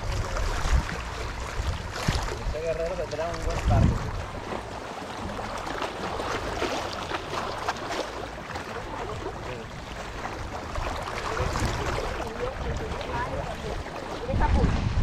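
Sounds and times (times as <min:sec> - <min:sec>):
water lapping: 0:00.0 - 0:15.0.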